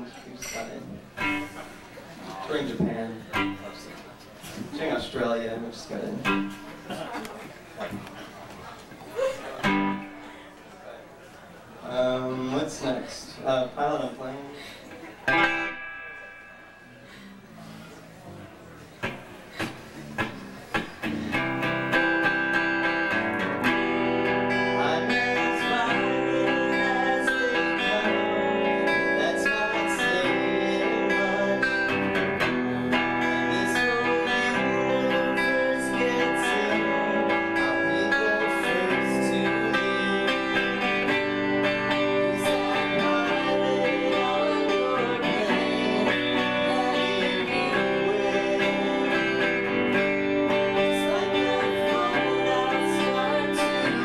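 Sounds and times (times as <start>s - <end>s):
live band with strummed guitar: 0.7s - 13.0s, 14.6s - 54.0s.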